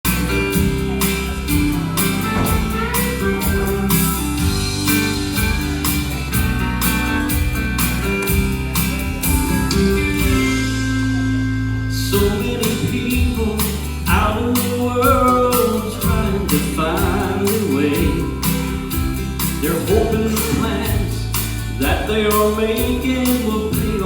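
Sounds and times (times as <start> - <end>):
gospel band instrumental: 0.0 - 24.0.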